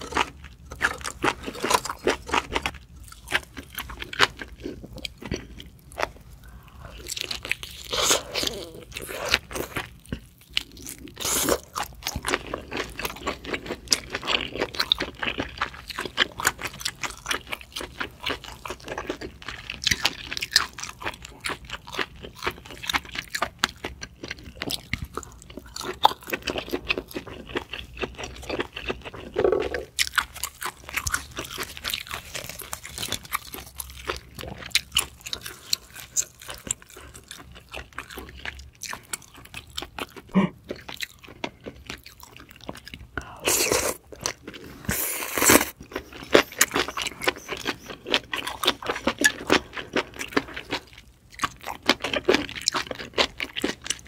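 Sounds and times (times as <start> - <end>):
person chewing with mouth clicks: 0.0 - 54.0.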